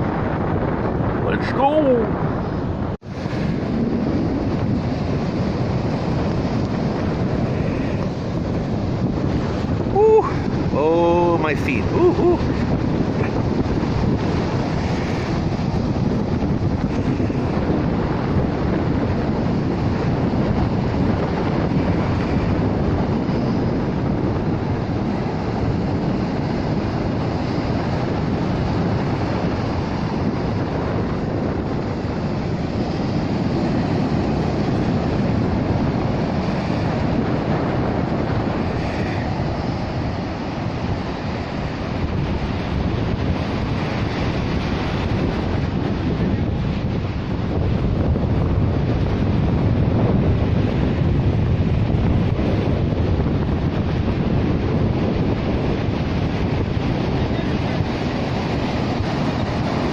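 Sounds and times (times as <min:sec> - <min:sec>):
ocean surf washing onto beach: 0:00.0 - 0:59.9
wind buffeting microphone: 0:00.0 - 0:59.9.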